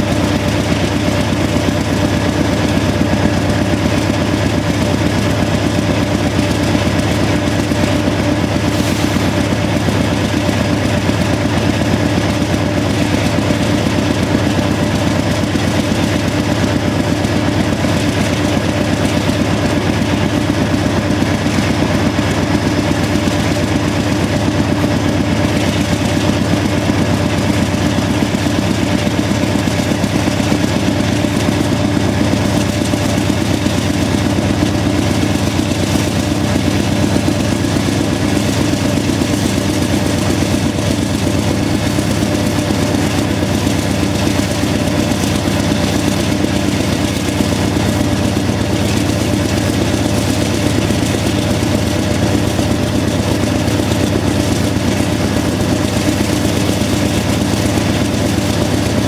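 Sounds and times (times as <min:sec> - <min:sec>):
locomotive exhaust chugging: 0:00.0 - 0:59.0
steady engine whine: 0:00.0 - 0:59.0.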